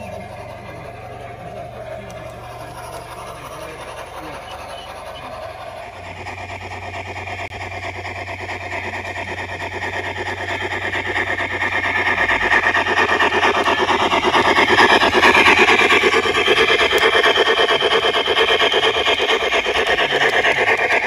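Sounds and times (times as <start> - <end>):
model train motor whir: 0.0 - 21.0
steady low hum: 0.0 - 21.0
wheels rattling on rails: 0.0 - 21.0.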